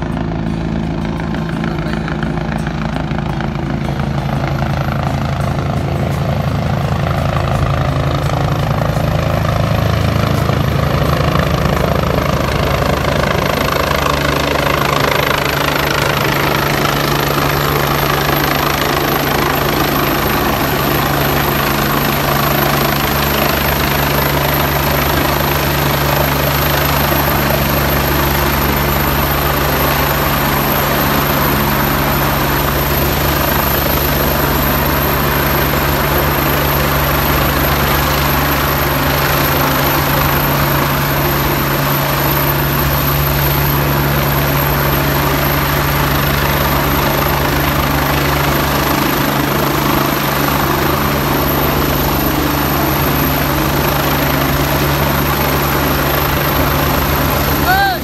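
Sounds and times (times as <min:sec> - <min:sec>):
helicopter rotor beating: 0:00.0 - 0:58.0.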